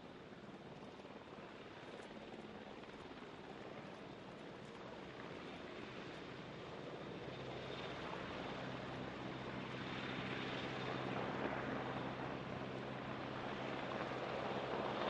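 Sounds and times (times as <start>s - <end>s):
helicopter turbine and rotor rumble: 0.0s - 15.0s.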